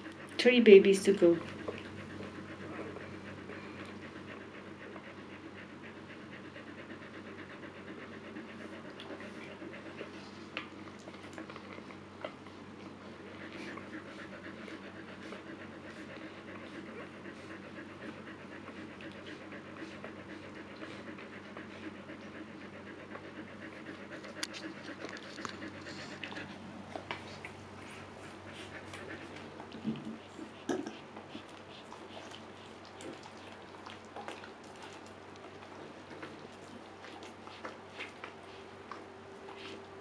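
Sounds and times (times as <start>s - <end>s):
dog panting rapidly: 0.0s - 40.0s.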